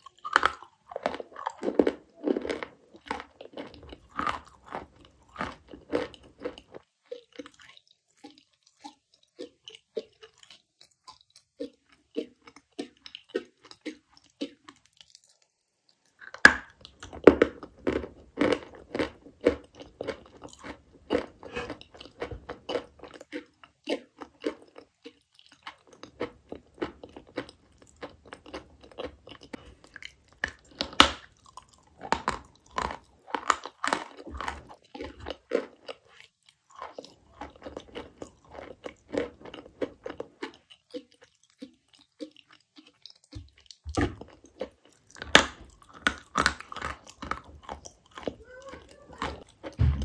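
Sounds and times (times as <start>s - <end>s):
chalk being crunched and chewed: 0.0s - 49.9s.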